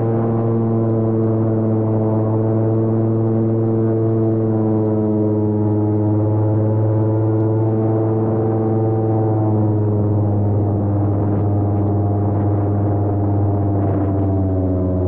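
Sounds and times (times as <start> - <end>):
airboat engine and propeller drone: 0.0 - 15.0.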